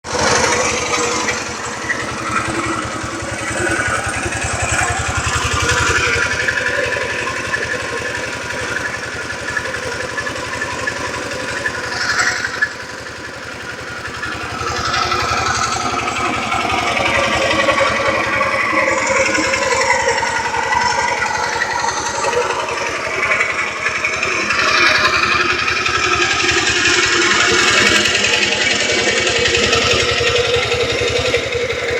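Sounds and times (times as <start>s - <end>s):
small engine running: 0.0s - 31.9s.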